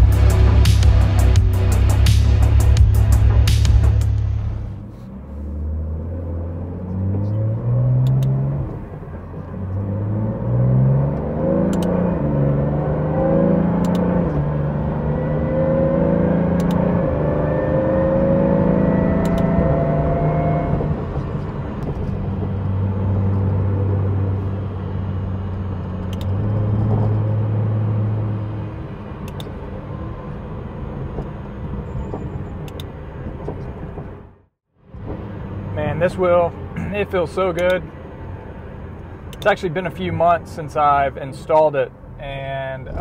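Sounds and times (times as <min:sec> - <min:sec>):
car engine accelerating through shifts: 0:00.0 - 0:43.0.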